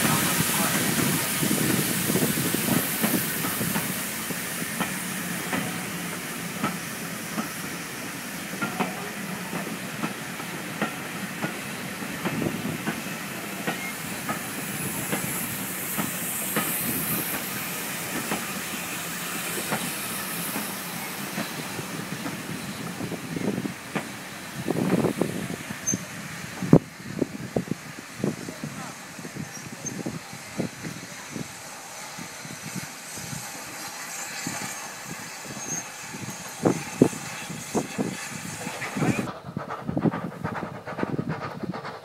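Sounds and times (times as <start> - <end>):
steam hissing: 0.0 - 42.0
train rumble: 0.0 - 42.0
train wheels clicking over rail joints: 0.0 - 42.0.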